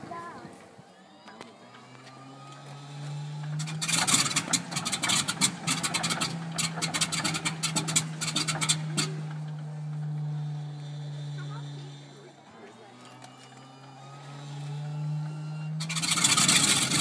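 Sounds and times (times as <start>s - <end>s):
aircraft engine starting with pops: 0.0s - 17.0s.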